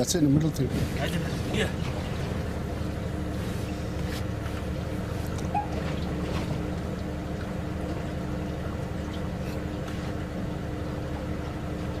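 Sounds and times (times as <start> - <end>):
water splashing against hull: 0.7 - 12.0
electric outboard motor humming: 0.9 - 12.0.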